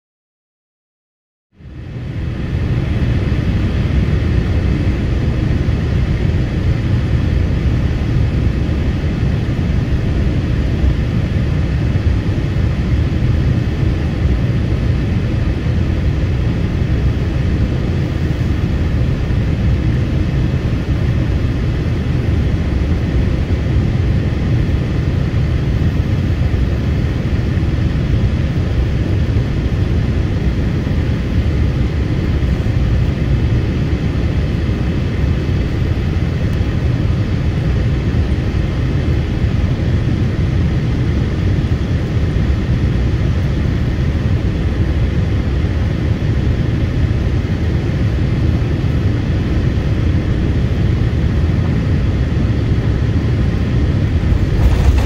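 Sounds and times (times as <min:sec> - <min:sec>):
airplane cabin rumble: 0:01.6 - 0:55.0.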